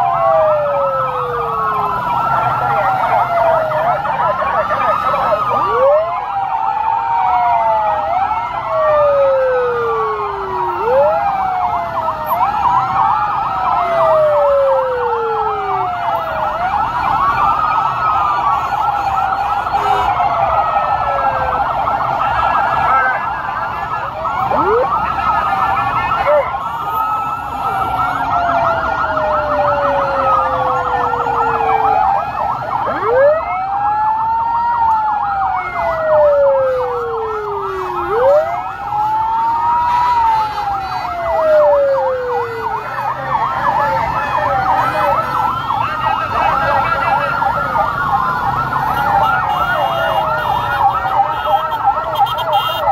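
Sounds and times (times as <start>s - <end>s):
sirens wailing: 0.0s - 52.9s
sirens yelping: 0.0s - 52.9s.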